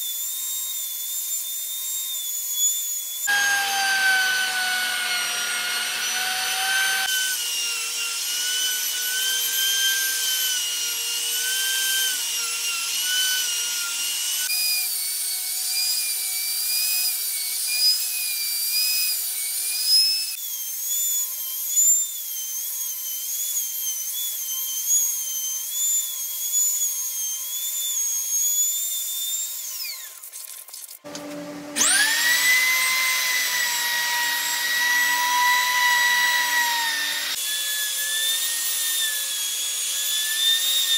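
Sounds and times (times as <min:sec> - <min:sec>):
router whining while cutting wood: 0:00.0 - 0:30.2, 0:31.0 - 0:40.9.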